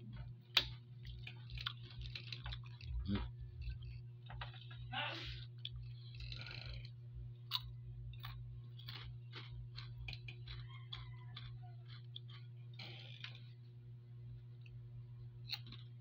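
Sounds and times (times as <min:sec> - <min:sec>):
crunchy snack crackling: 0:00.0 - 0:16.0
steady low hum: 0:00.0 - 0:16.0.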